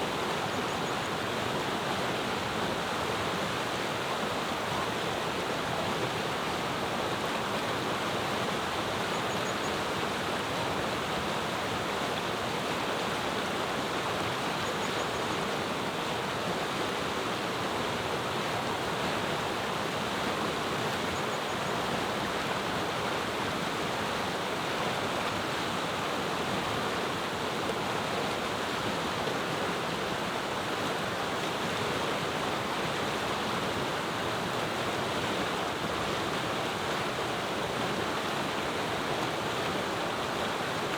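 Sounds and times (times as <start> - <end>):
river water rushing: 0.0 - 14.7, 15.3 - 40.9.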